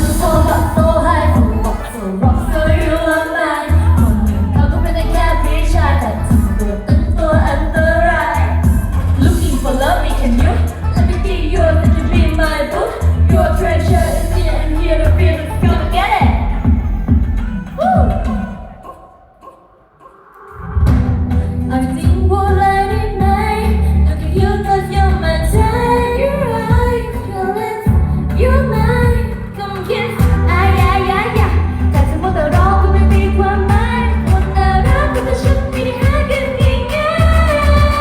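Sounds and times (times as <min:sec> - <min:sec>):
woman singing: 0:00.0 - 0:18.8, 0:21.4 - 0:38.0
heavy bass beat: 0:00.0 - 0:19.0, 0:20.6 - 0:27.3, 0:27.9 - 0:38.0.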